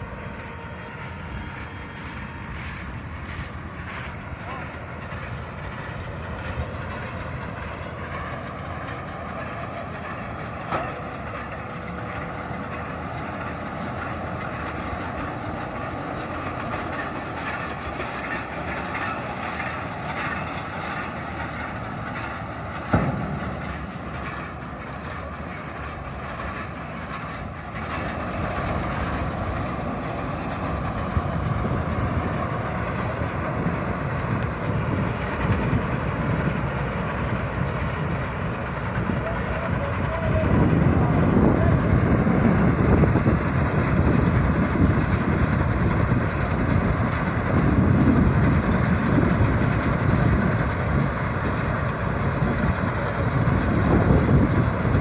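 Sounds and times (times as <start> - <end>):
rhythmic clatter: 0.0 - 55.0
round baler running: 0.0 - 55.0.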